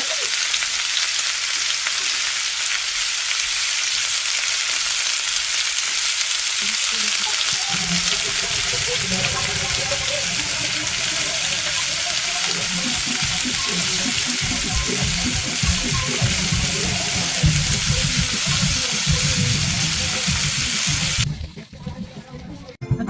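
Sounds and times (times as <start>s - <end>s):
chicken sizzling in hot oil: 0.0s - 21.3s.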